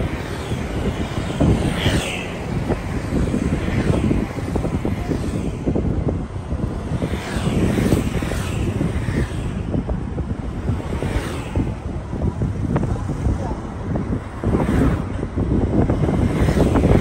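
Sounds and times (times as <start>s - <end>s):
buffeting noise: 0.0s - 17.0s
moving vehicle rumble: 0.0s - 17.0s.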